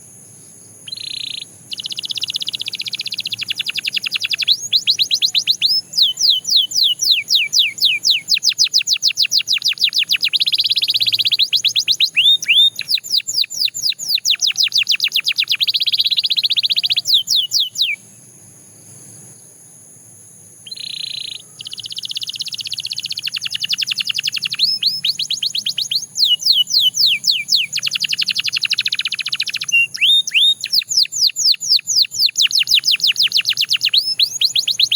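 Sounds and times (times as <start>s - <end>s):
canary singing: 0.9s - 18.1s, 20.6s - 34.9s.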